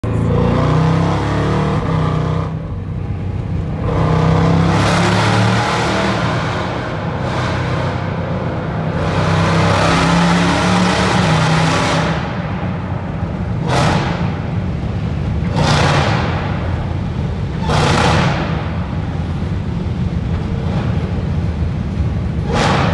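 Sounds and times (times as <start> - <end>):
car engine and exhaust accelerating: 0.0 - 22.9.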